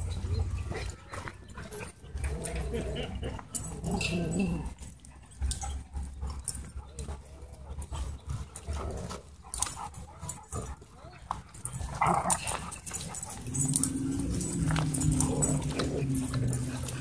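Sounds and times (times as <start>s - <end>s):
dogs whining: 0.0s - 17.0s.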